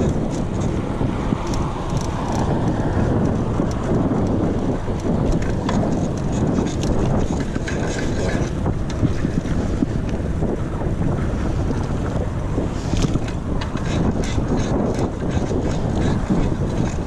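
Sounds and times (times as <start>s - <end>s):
bicycle clicks: 0.0s - 17.0s
wind buffeting microphone: 0.0s - 17.0s.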